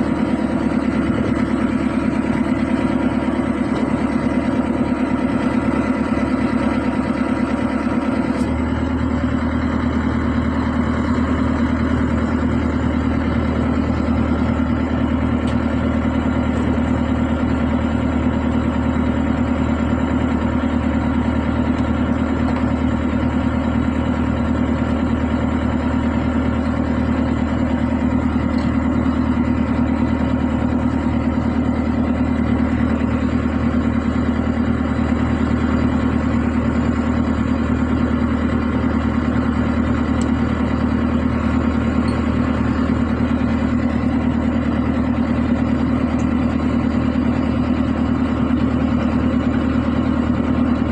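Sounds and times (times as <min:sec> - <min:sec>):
engine idling: 0:00.0 - 0:50.9.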